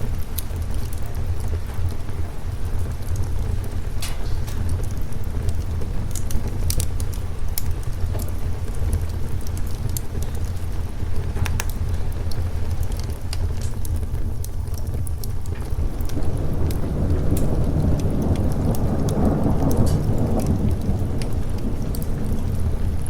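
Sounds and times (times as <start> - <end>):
fireplace crackles: 0.0 - 23.0
steady rain: 0.0 - 23.0
thunder rumble: 0.0 - 23.0.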